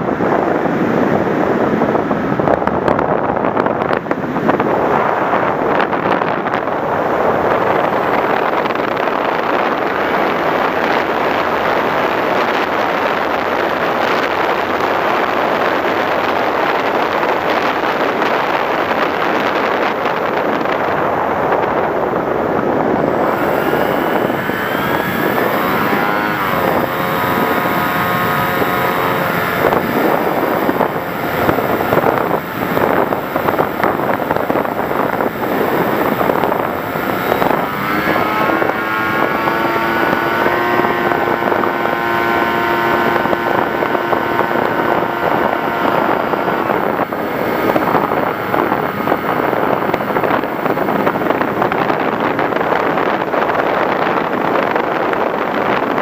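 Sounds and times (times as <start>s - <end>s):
air rushing: 0.0s - 53.5s
motor and propeller whine: 0.0s - 56.0s.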